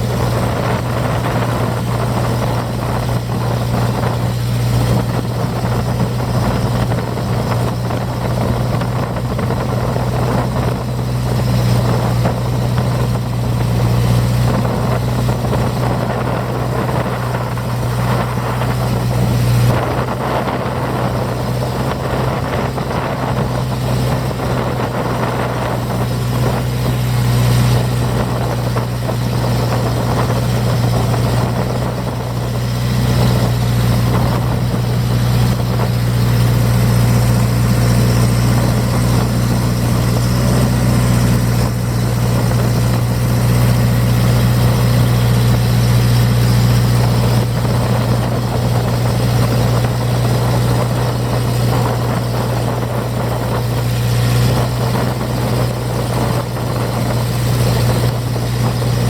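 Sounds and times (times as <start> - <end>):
boat engine droning: 0.0 - 59.0
rushing water and wind: 0.0 - 59.0.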